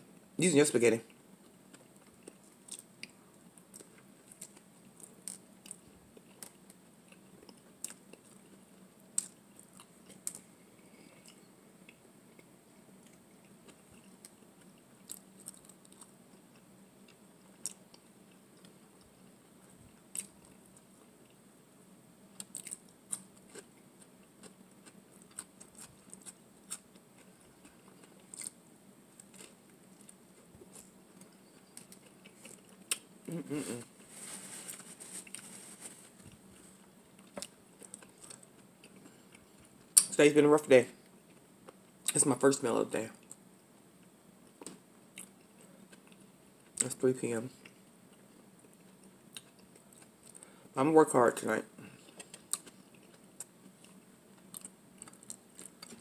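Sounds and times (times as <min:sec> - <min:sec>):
person chewing food: 0:01.4 - 0:19.3, 0:19.9 - 0:21.4, 0:22.3 - 0:28.6, 0:29.2 - 0:40.1, 0:44.0 - 0:46.8, 0:47.6 - 0:50.6, 0:51.8 - 0:56.0.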